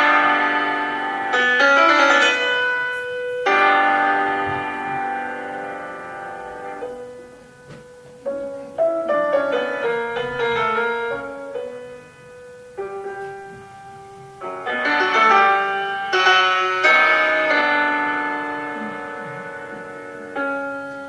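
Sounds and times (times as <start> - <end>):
solo piano classical piece: 0.0 - 21.0.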